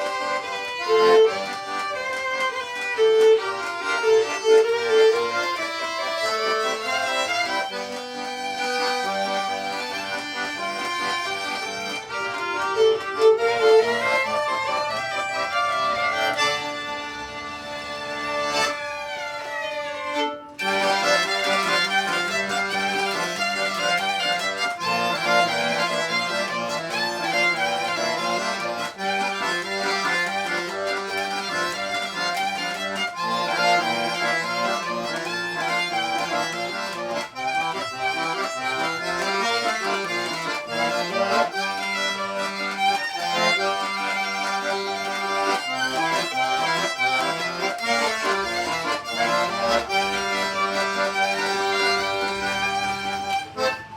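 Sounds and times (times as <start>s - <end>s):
accordion folk music: 0.0s - 53.9s.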